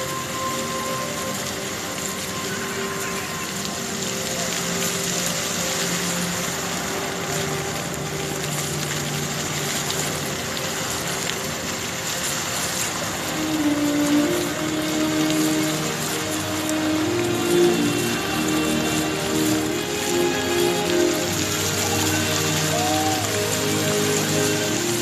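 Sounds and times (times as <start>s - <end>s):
faint music with long notes: 0.0s - 25.0s
fountain water splashing: 0.0s - 25.0s.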